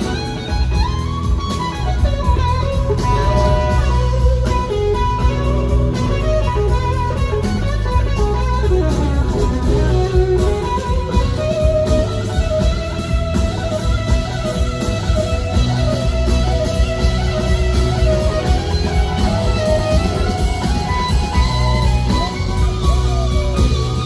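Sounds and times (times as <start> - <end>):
electric guitar lead line: 0.0 - 24.0
live rock band playing: 0.0 - 24.0.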